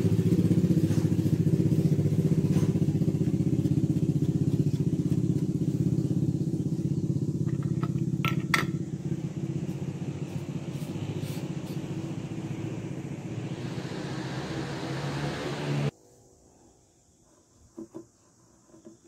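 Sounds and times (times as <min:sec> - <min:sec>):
vehicle engine running: 0:00.0 - 0:15.9.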